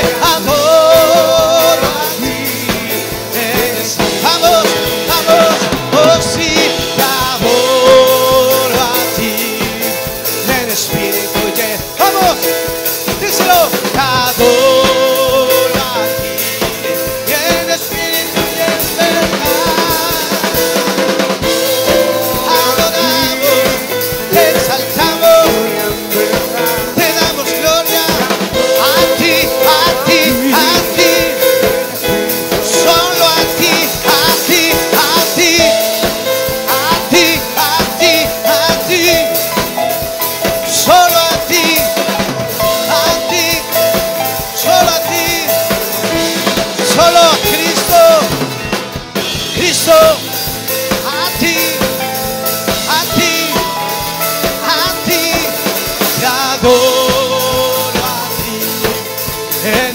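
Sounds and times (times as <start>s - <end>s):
live band with drums and guitars: 0.0s - 59.9s
voices singing wordlessly: 0.0s - 59.9s.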